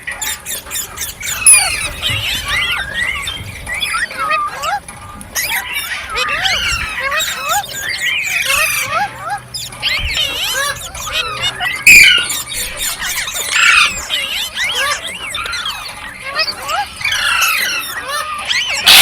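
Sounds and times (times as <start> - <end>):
parrot squawk: 0.0 - 19.0
parrots chirping and squealing: 0.0 - 19.0.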